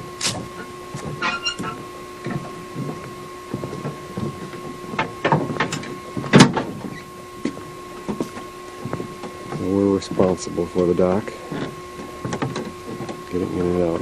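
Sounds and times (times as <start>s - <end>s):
faint steady hum: 0.0s - 14.0s
footsteps on wooden dock: 0.0s - 14.0s.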